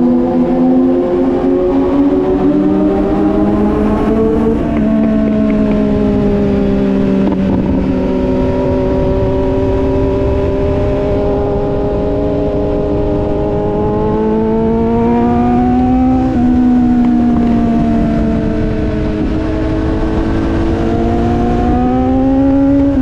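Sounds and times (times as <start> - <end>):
wind rumbling on microphone: 0.0 - 23.0
motorcycle engine running: 2.2 - 23.0.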